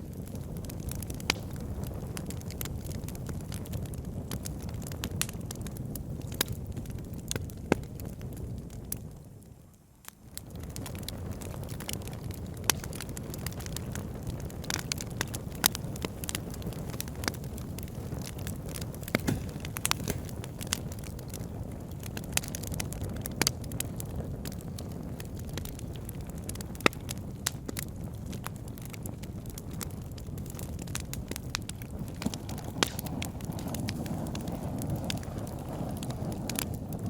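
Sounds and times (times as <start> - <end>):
fire crackling in a fireplace: 0.0 - 37.0.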